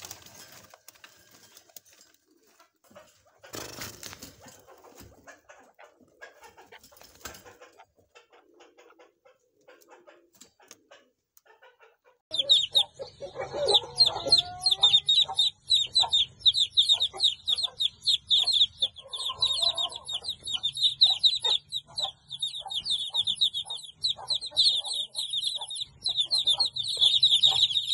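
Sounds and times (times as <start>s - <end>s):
chicks peeping: 2.5s - 27.9s.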